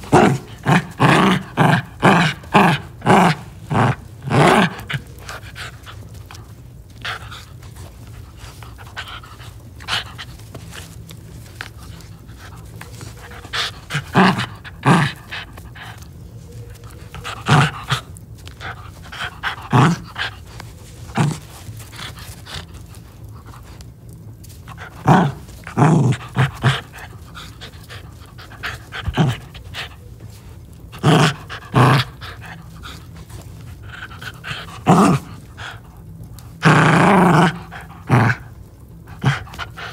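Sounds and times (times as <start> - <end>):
steady low hum: 0.0 - 39.9
puppy breathy sounds: 3.6 - 36.5, 37.5 - 39.9.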